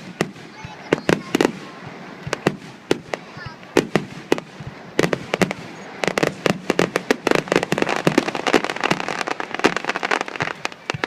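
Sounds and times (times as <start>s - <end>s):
fireworks crackling bangs: 0.0s - 11.0s.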